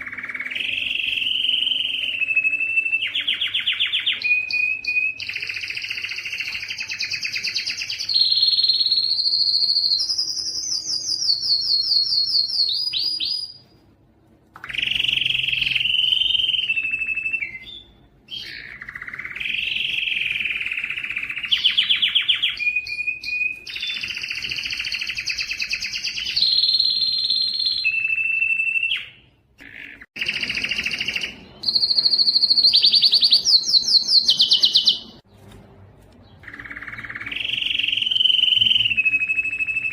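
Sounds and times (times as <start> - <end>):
canary singing trills: 0.0 - 13.8, 14.6 - 35.3, 36.2 - 39.9.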